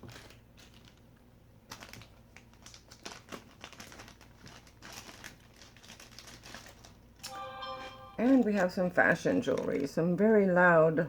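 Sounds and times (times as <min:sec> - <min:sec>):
packaging crinkling and rustling: 0:00.0 - 0:07.3, 0:08.2 - 0:10.0.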